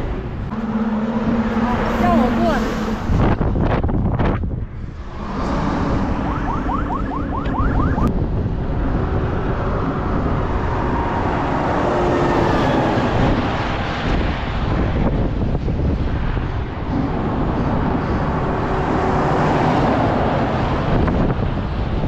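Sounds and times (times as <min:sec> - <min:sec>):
vehicle engines rumbling: 0:00.0 - 0:22.0
wind buffeting microphone: 0:00.0 - 0:22.0.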